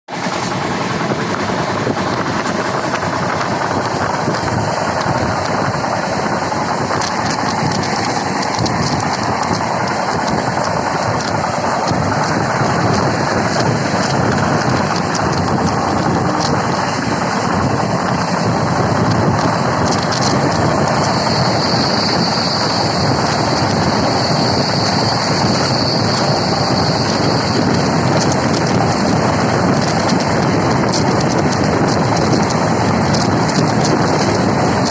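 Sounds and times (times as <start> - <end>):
thin high whine: 0.1 - 29.0
train wheels rumbling and rattling: 0.1 - 34.9.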